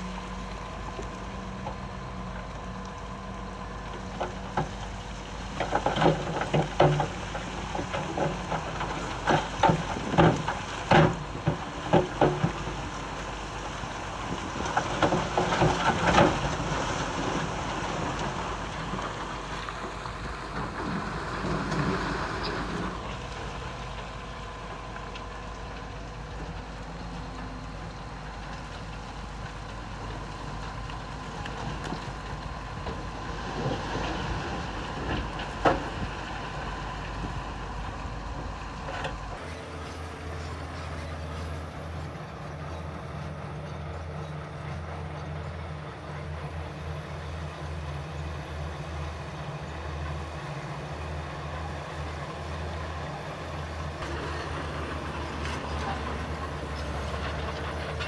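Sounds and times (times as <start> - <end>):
heavy machinery diesel engines: 0.0 - 58.0.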